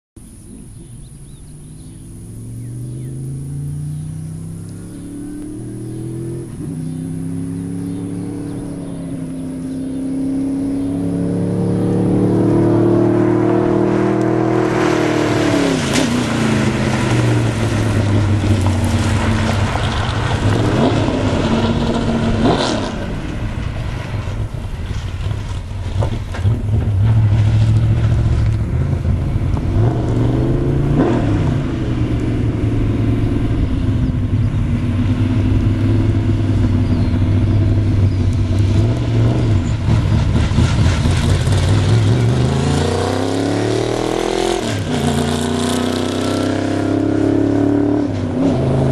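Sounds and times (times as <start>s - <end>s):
race car engine accelerating: 0.7s - 48.9s.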